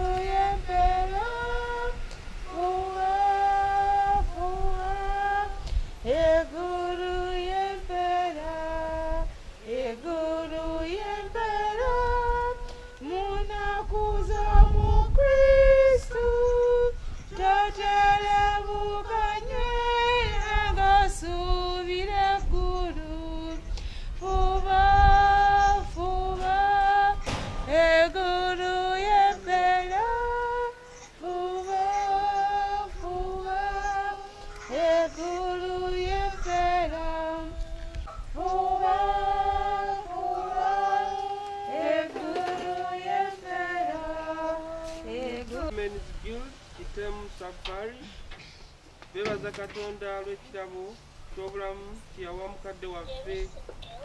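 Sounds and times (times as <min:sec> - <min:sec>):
woman singing a slow hymn: 0:00.0 - 0:47.8.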